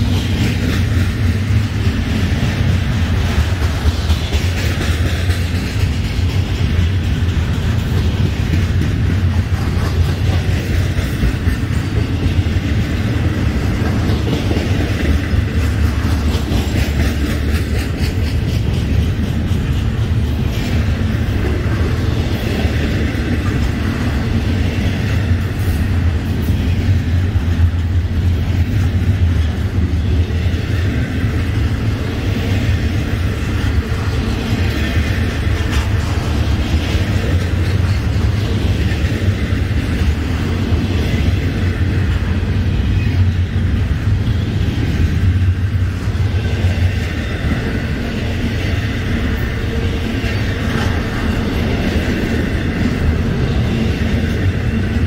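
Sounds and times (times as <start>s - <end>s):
freight train wheels on rail: 0.0s - 55.0s.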